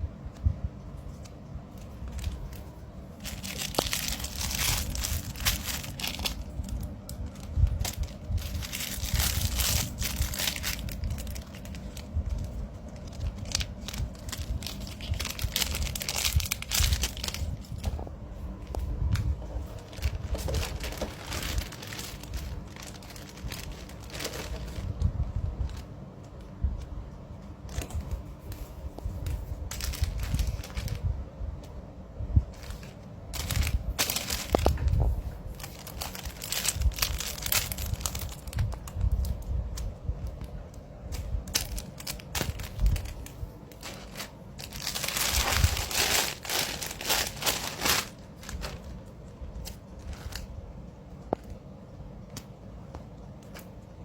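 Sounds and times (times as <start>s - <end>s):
plastic wrapping crinkling: 1.0s - 27.0s, 27.6s - 31.1s, 32.5s - 51.6s.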